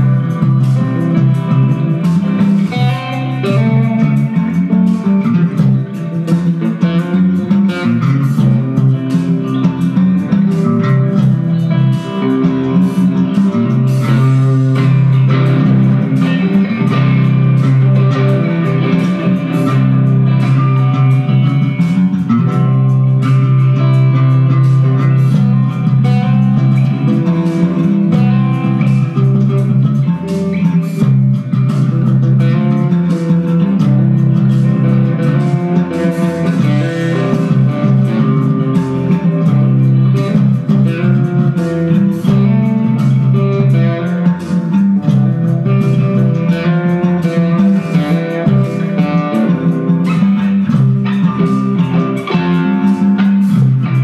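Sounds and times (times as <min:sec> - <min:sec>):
electric guitar jamming: 0:00.0 - 0:54.0
sustained electric bass notes: 0:00.0 - 0:54.0.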